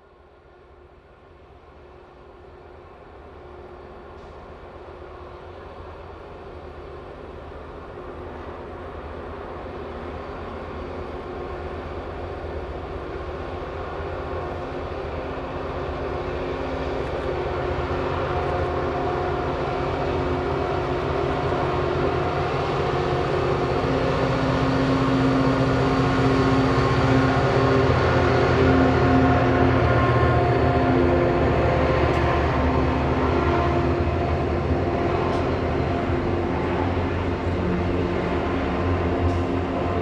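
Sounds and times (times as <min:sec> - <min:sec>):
diesel locomotive engines droning: 0:00.0 - 0:40.0.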